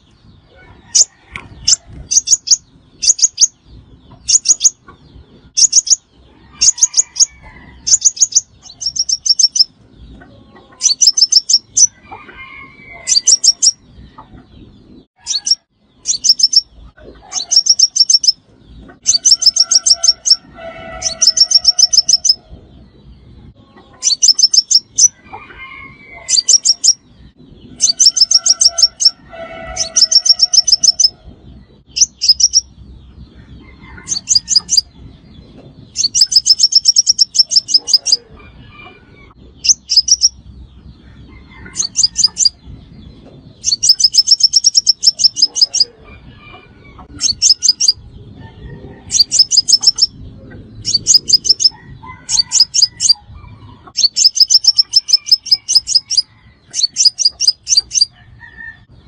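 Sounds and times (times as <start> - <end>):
sunbird song high-pitched trills: 0.0 - 12.0, 12.6 - 25.2, 25.9 - 38.3, 39.2 - 46.0, 47.1 - 48.2, 49.1 - 50.2, 50.8 - 53.3, 53.9 - 58.2.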